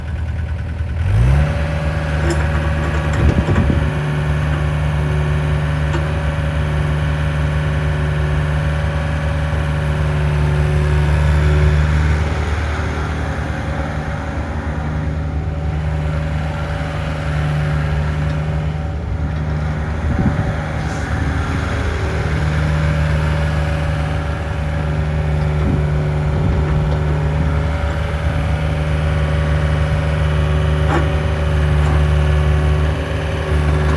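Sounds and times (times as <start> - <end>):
diesel engine starting and running: 0.0 - 33.9.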